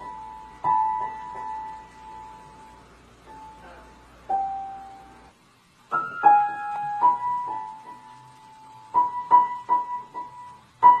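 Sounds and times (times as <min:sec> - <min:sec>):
piano notes: 0:00.0 - 0:11.0.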